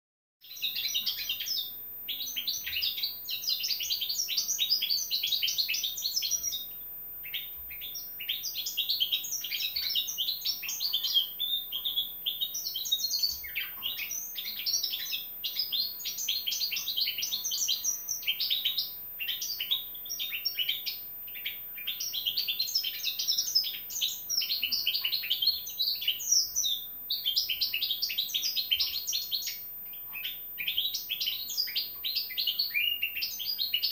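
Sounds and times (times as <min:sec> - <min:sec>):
finch singing: 0:00.4 - 0:33.9.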